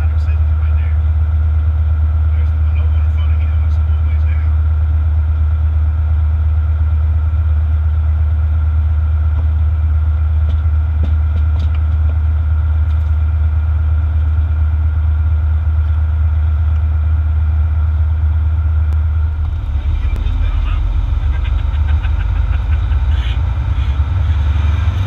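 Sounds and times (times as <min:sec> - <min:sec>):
fire engine diesel engine running: 0:00.0 - 0:25.0.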